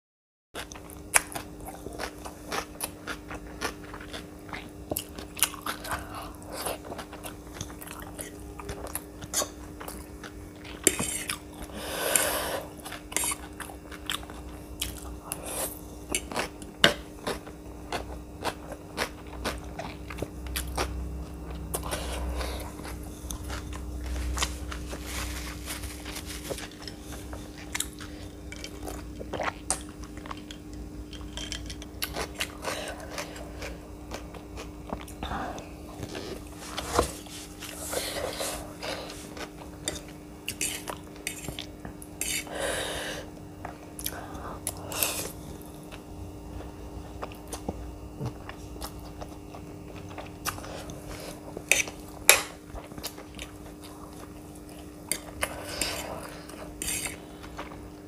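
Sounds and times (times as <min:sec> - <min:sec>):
faint steady hum: 0:00.6 - 0:58.0
person chewing noodles: 0:00.6 - 0:58.0.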